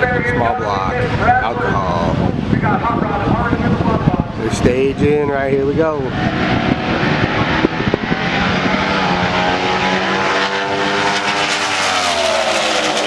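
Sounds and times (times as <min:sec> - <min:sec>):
dragster engines at full throttle: 0:00.0 - 0:13.0.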